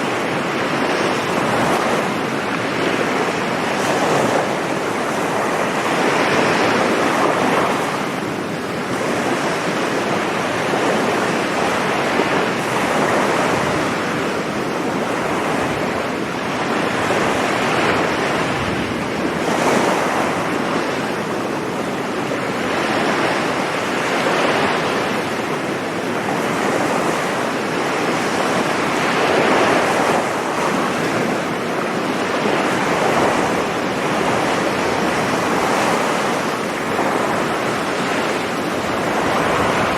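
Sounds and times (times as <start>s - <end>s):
waves washing on sandy beach: 0.0s - 39.9s.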